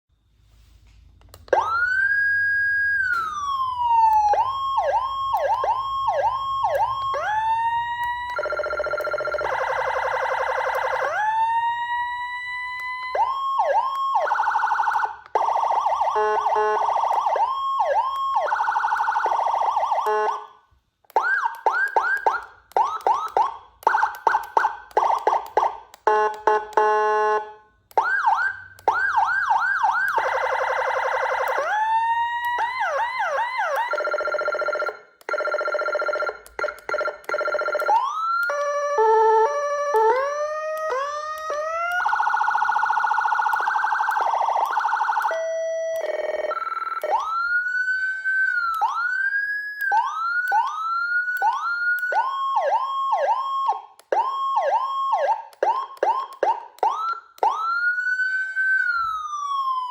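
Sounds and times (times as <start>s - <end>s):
electronic siren: 1.5s - 59.9s.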